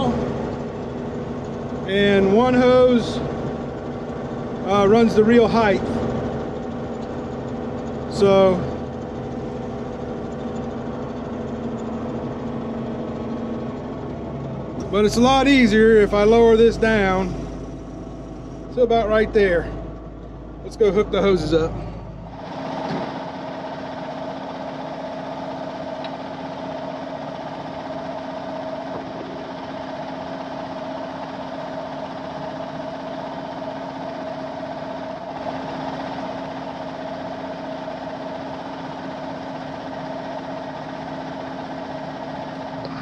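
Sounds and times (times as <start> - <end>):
combine engine idling: 0.0 - 43.0.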